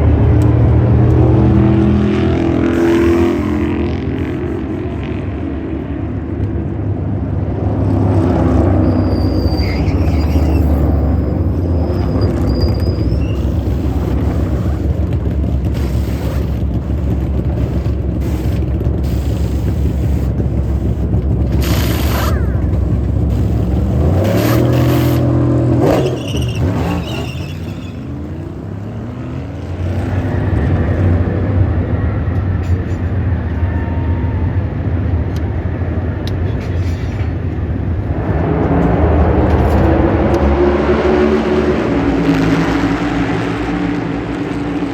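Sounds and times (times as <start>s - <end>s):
race car engines droning: 0.0s - 44.9s
race cars passing close: 0.0s - 44.9s.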